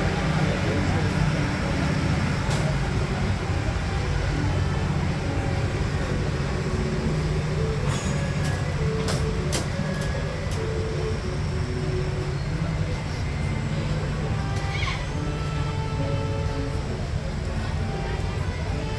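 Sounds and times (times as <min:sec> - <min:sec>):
train rolling rumble: 0:00.0 - 0:18.9.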